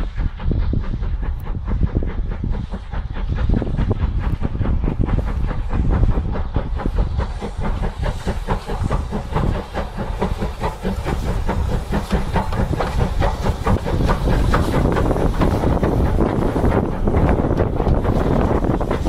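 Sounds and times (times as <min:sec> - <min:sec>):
steam locomotive exhaust chuffing: 0:00.0 - 0:19.0
train rumbling on rails: 0:00.0 - 0:19.0.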